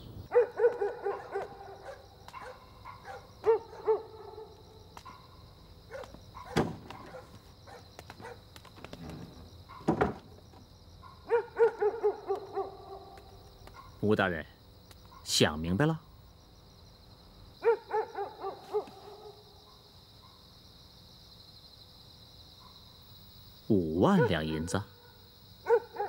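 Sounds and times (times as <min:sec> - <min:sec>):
high chirring insects: 0:00.0 - 0:26.0.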